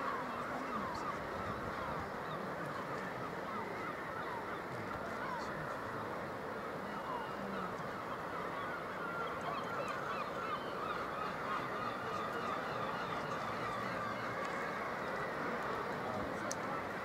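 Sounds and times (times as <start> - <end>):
seabirds calling: 0.0 - 17.0.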